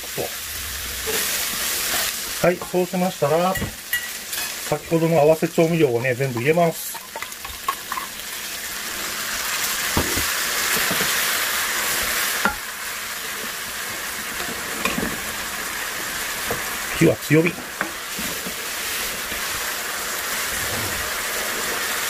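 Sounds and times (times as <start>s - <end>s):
meat frying in a pan: 0.0s - 22.0s.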